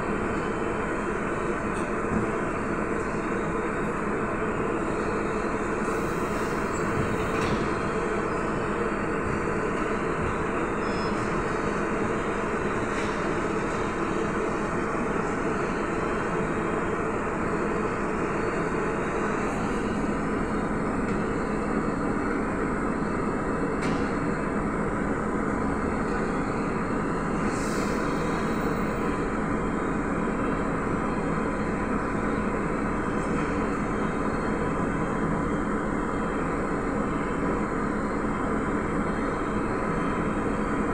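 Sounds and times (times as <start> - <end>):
trolleybus cabin hum: 0.0 - 40.9.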